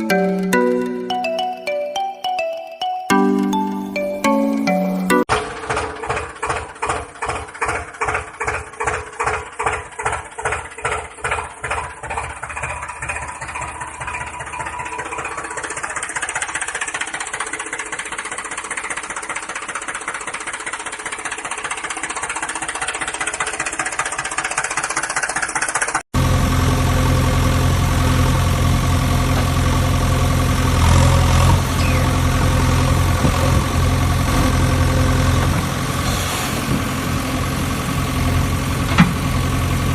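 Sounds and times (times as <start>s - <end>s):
deeper engine running: 5.3s - 39.9s
tractor engine chugging: 5.3s - 39.9s.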